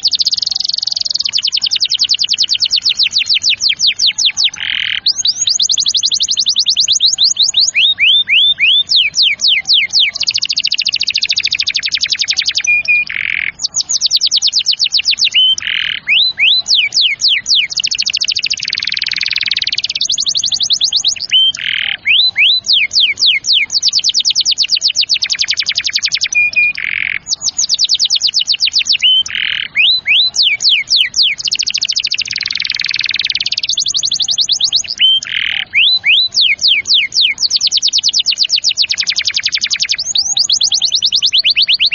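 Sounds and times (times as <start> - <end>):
canary singing fast trills: 0.0 - 41.9.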